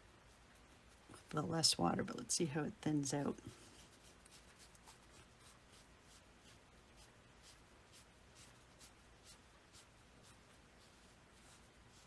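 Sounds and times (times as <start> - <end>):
paintbrush strokes on paper: 0.0 - 12.0.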